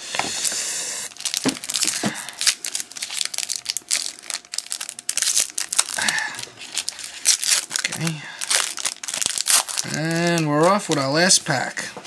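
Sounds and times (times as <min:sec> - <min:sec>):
plastic wrapper crinkling and tearing: 0:01.1 - 0:11.4.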